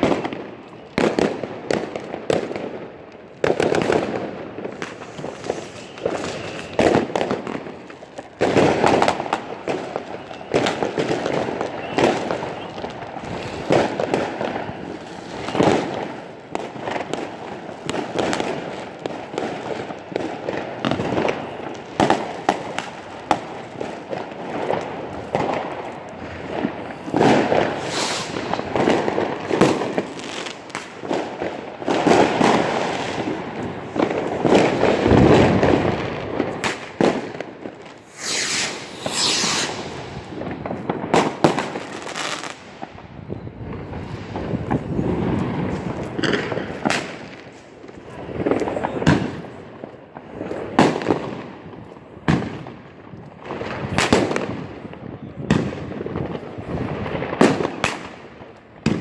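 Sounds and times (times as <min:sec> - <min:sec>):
fireworks bangs and crackles: 0:00.0 - 0:59.0
loud firework explosions: 0:00.0 - 0:59.0.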